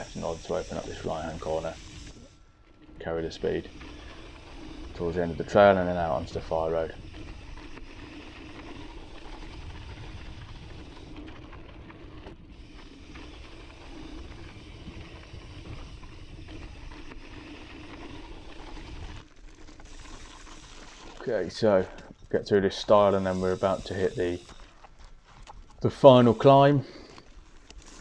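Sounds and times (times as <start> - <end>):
bike tyres rolling on dirt: 0.0 - 28.0.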